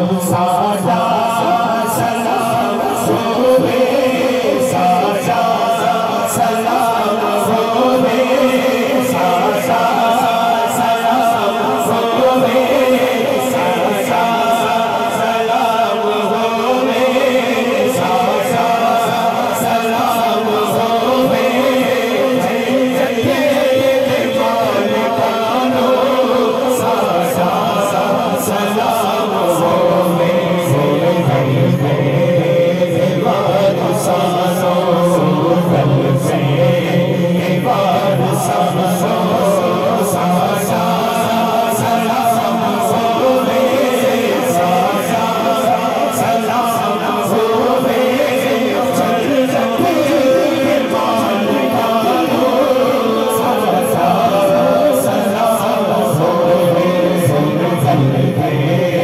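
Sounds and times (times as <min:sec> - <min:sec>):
man chanting into microphone: 0:00.0 - 0:59.0.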